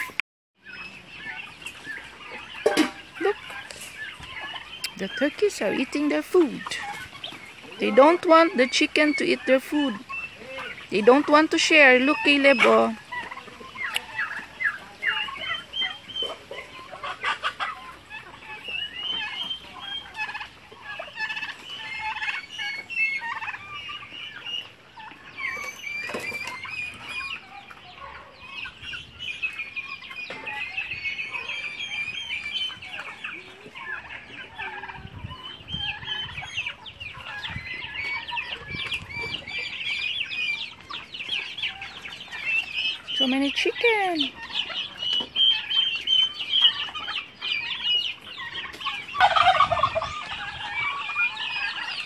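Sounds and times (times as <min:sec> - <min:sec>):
chickens and turkeys clucking: 0:00.0 - 0:52.0.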